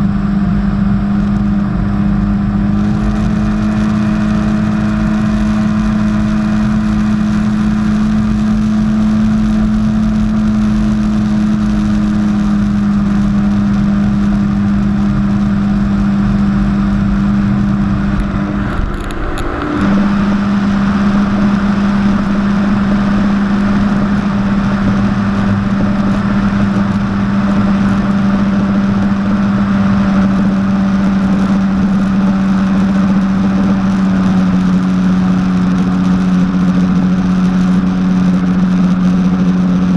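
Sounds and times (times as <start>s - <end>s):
jet ski engine droning: 0.0s - 39.9s.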